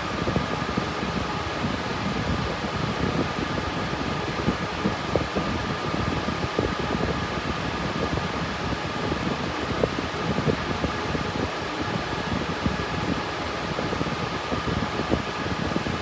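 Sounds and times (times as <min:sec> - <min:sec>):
cooling fans whining: 0:00.0 - 0:16.0.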